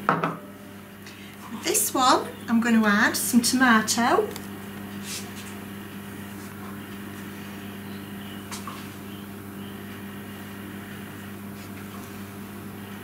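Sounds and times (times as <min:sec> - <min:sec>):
steady low electrical hum: 0:00.0 - 0:13.0.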